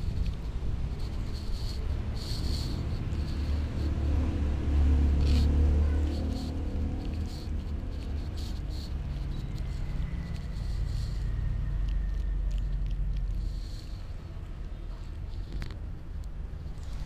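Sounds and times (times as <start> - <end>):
cat chewing and licking: 0.0 - 17.0
steady low rumble: 0.0 - 17.0.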